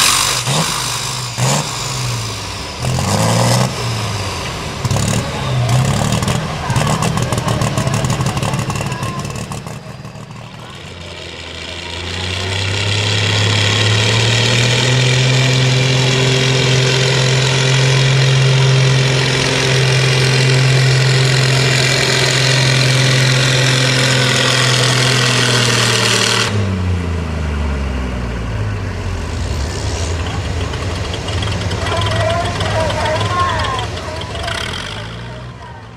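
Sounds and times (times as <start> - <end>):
tractor engine at full throttle: 0.0 - 35.9.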